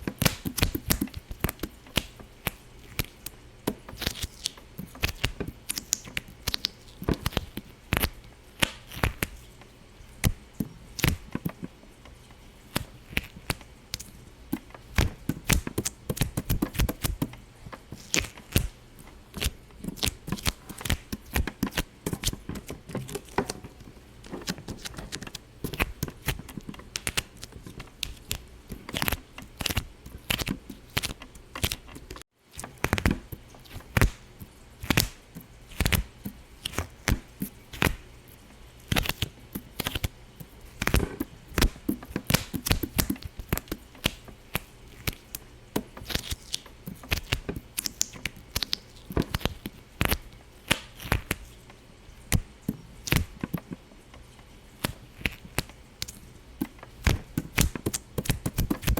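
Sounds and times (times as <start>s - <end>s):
sharp pops and clicks: 0.0s - 9.4s, 10.2s - 38.1s, 38.9s - 51.5s, 52.3s - 58.9s.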